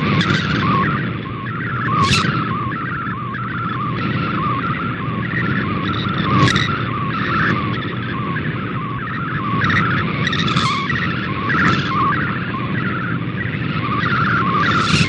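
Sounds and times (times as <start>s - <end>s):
low radio static: 0.0s - 15.0s
warbling digital data signal: 0.0s - 15.0s.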